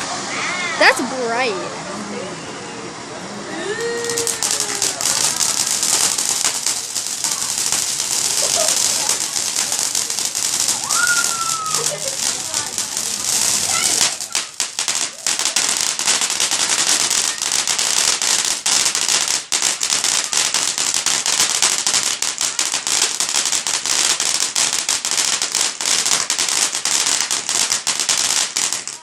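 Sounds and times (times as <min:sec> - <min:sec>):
fireworks crackling: 0:00.0 - 0:01.6, 0:03.6 - 0:29.0.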